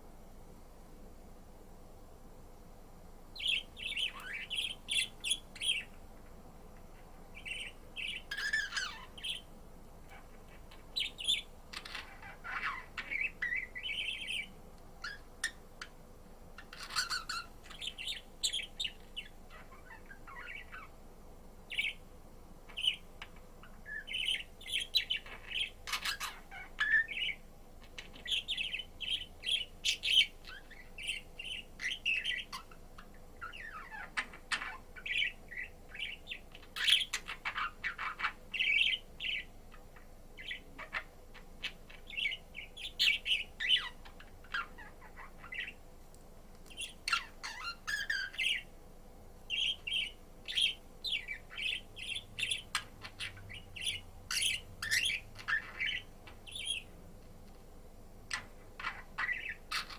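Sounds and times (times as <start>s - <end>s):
budgerigar chirping and chattering: 3.4s - 6.0s, 7.4s - 9.5s, 10.1s - 16.0s, 16.6s - 20.9s, 21.7s - 22.0s, 22.7s - 45.8s, 46.7s - 48.7s, 49.5s - 56.9s, 58.3s - 59.9s.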